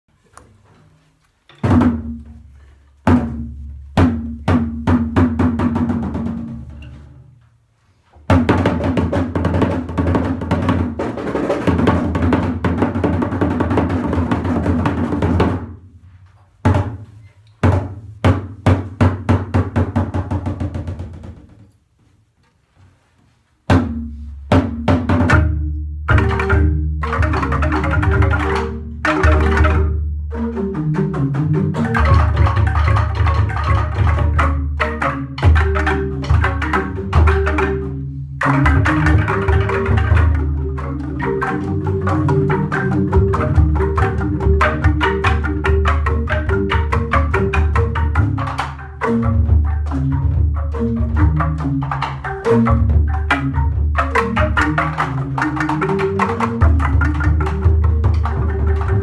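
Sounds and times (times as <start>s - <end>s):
bamboo percussion ensemble playing: 0.8s - 21.7s, 23.6s - 59.0s.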